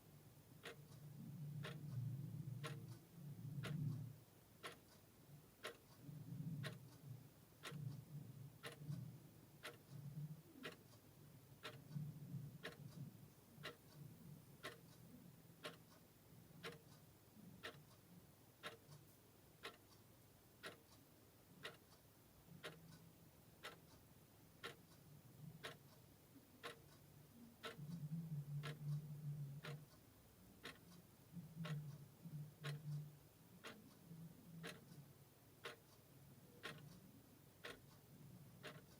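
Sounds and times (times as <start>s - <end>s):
clock ticking: 0.2s - 38.9s.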